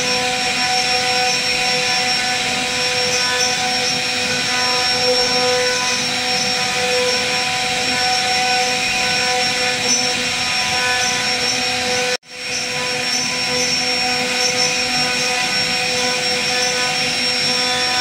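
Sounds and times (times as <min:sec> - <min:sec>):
router bit cutting wood: 0:00.0 - 0:18.0
router spindle whining: 0:00.0 - 0:18.0.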